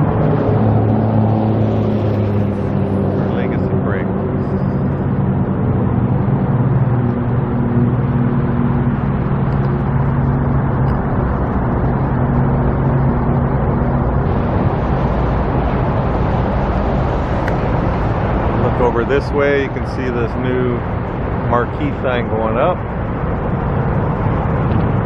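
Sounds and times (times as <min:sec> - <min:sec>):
car engine running: 0:00.0 - 0:25.0
road noise rumble: 0:00.0 - 0:25.0.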